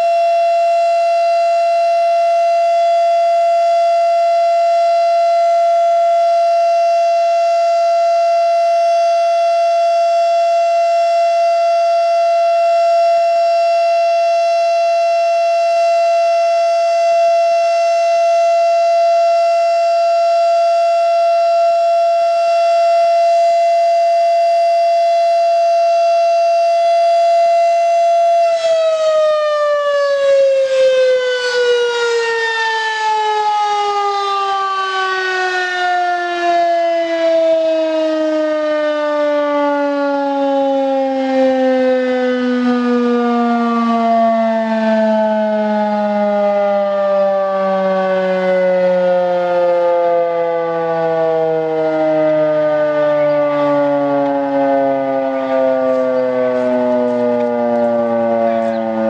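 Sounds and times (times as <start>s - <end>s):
warning siren winding down: 0.0s - 59.0s.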